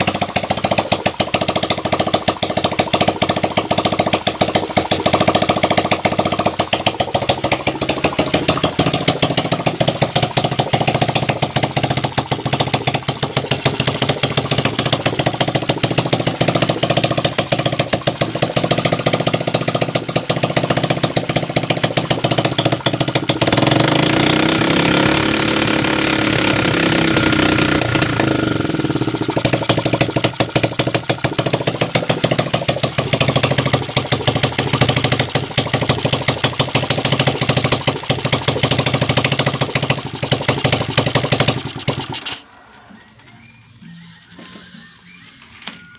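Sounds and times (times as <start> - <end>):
motorcycle engine idling: 0.0 - 42.5.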